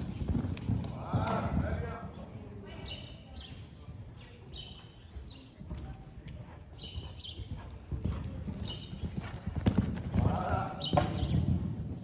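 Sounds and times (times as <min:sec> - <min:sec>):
horse hoofbeats on sand: 0:00.0 - 0:02.1, 0:04.1 - 0:12.0.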